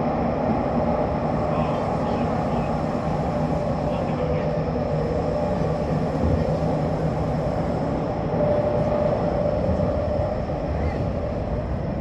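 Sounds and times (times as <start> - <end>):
steady train hum: 0.0 - 12.0
train wheels rumbling on rail: 0.0 - 12.0.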